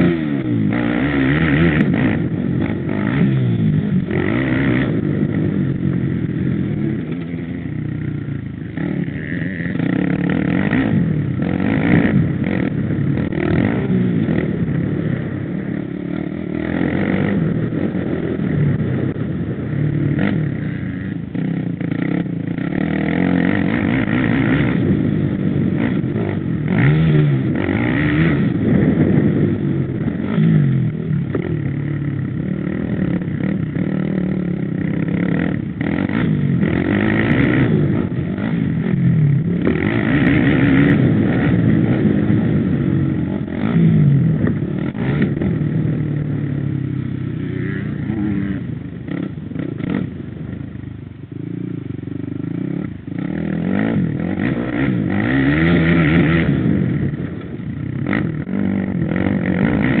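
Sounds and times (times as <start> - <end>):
quad bike engine revving: 0.0 - 60.0.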